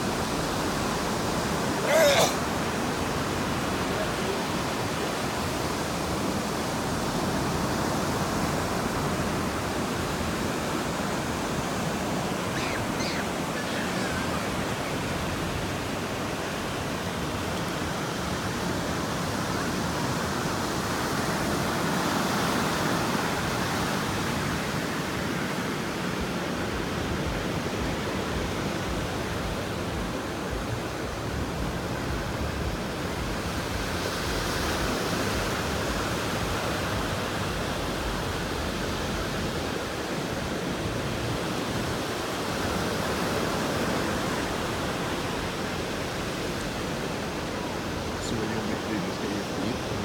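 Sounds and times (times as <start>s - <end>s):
surf breaking on beach: 0.0s - 50.0s.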